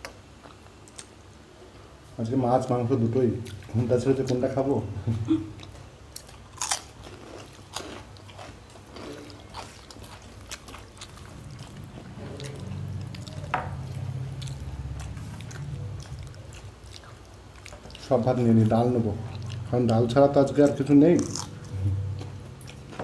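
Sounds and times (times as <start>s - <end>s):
chewing crisp food: 3.4s - 4.5s, 5.5s - 23.0s.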